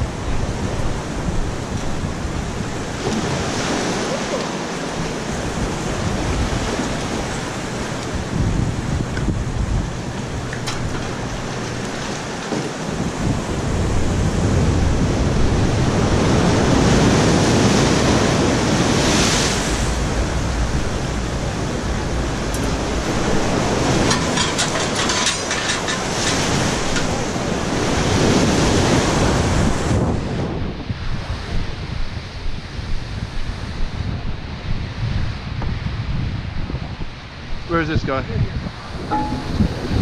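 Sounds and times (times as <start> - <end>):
waves and surf: 0.0 - 40.0
wind buffeting microphone: 0.0 - 40.0.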